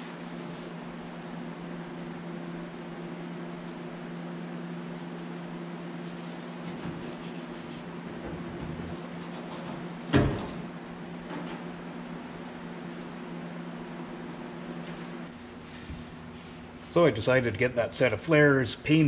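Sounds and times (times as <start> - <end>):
shop equipment humming: 0.0 - 19.0.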